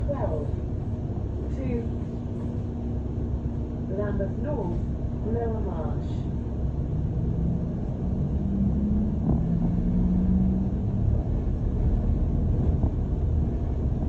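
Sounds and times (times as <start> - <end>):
bus engine rumble: 0.0 - 14.0
steady hum: 0.0 - 14.0.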